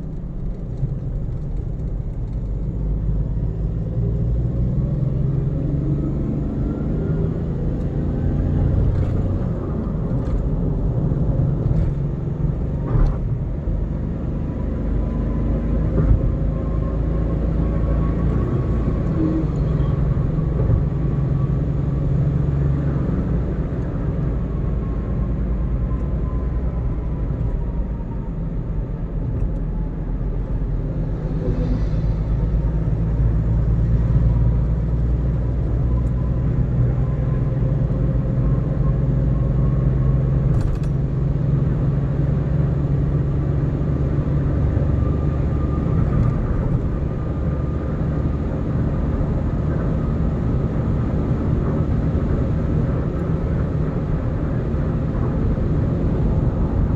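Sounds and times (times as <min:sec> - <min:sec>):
car engine and tyre rumble: 0:00.0 - 0:56.9.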